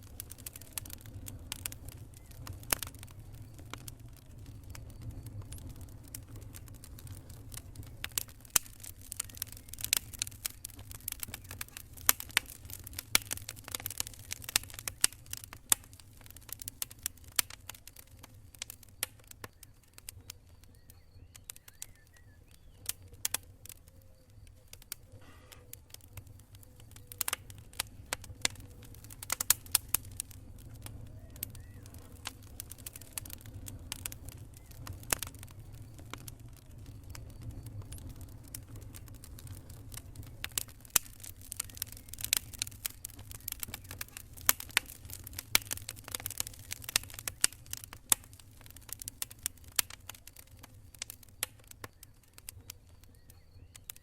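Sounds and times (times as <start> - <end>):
campfire crackling: 0.0 - 54.0
fire pops and snaps: 0.0 - 54.0.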